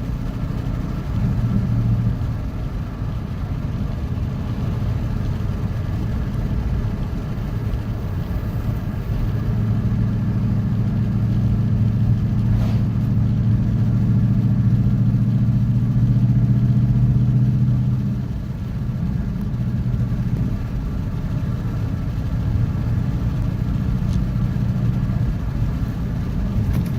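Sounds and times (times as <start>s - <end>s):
car engine droning: 0.0s - 26.9s.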